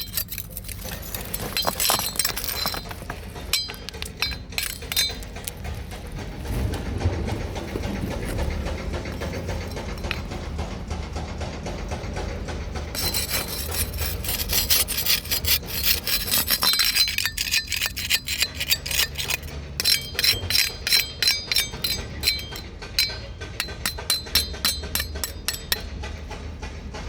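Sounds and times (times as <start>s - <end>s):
rasping scraping strokes: 0.0s - 25.9s
low steady rumble: 0.0s - 27.0s.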